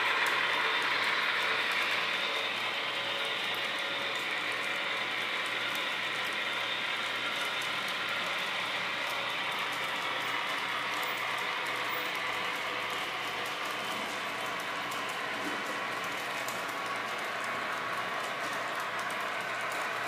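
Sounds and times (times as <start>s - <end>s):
metal wheels rolling on rail: 0.0s - 20.0s
model train motors whirring: 0.0s - 20.0s.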